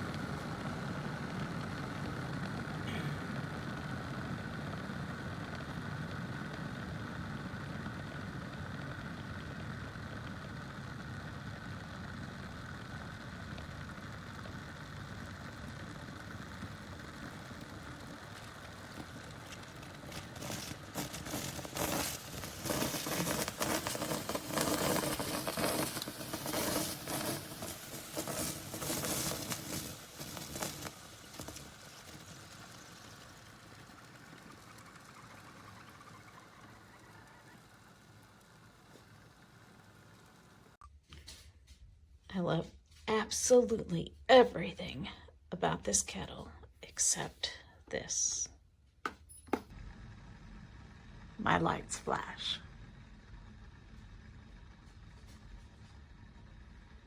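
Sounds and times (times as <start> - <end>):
boiling water crackling and popping: 0.0 - 41.4, 51.0 - 57.0
kettle low hum: 0.0 - 57.0.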